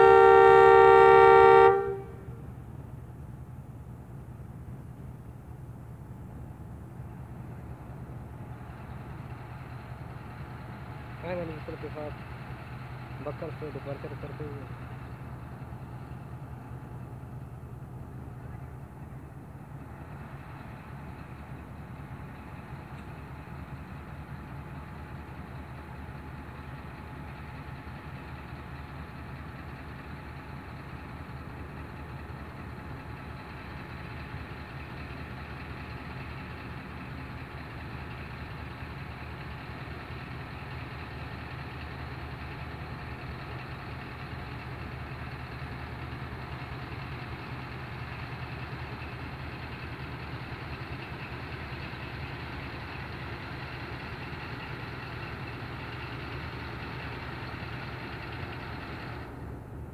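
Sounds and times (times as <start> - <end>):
locomotive diesel engine throbbing: 0.0 - 59.9.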